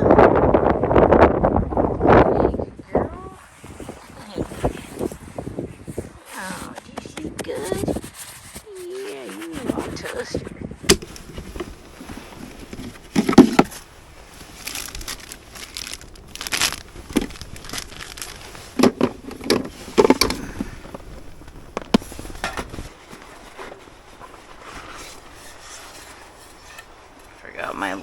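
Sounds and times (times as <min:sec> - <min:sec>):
rustling and crinkling: 0:03.4 - 0:28.0.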